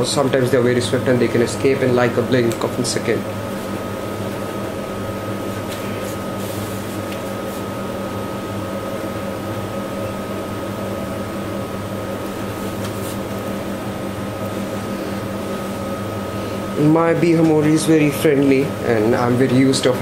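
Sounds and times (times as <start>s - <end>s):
mechanical room hum: 0.0s - 20.0s.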